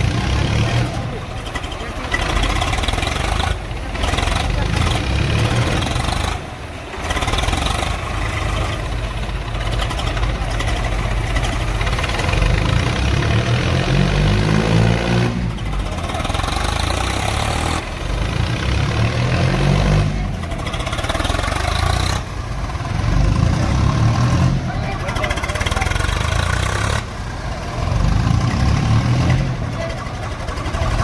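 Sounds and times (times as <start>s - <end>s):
tractor diesel engines revving: 0.0s - 31.0s.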